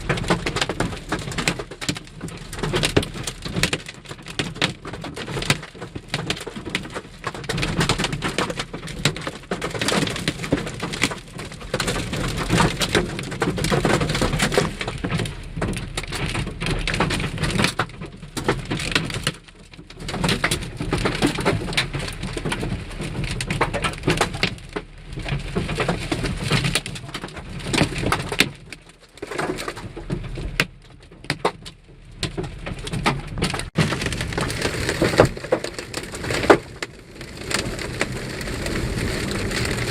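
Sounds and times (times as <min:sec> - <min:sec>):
hail pelting a vehicle: 0:00.0 - 0:39.9.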